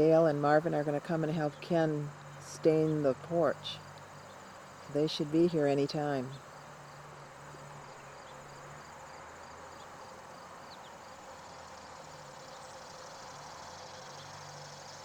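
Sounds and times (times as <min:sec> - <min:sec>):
faint insects chirping: 0:00.0 - 0:15.0.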